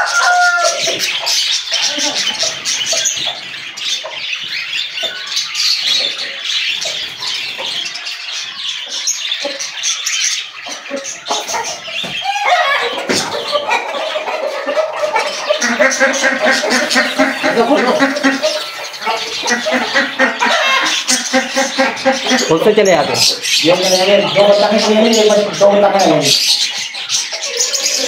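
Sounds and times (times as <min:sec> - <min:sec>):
loud bird call: 0:00.0 - 0:28.0
small birds twittering: 0:00.0 - 0:28.0.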